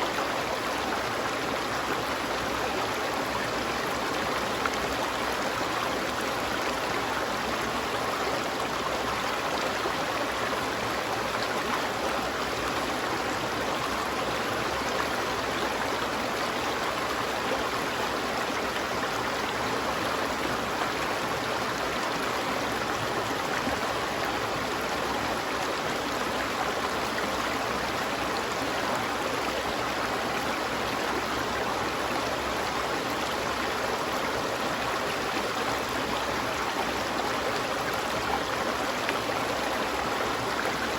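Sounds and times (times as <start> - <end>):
stream flowing and burbling: 0.0 - 40.9.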